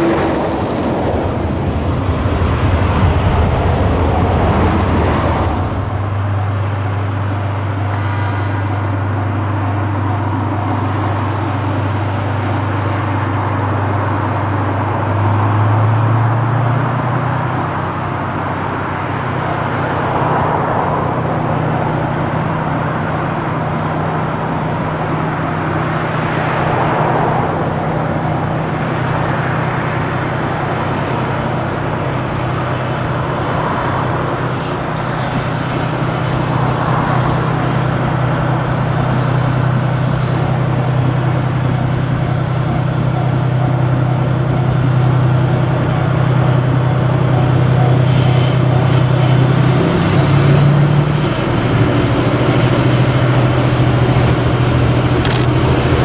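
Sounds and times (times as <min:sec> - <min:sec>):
train engine drone: 0:00.0 - 0:56.0.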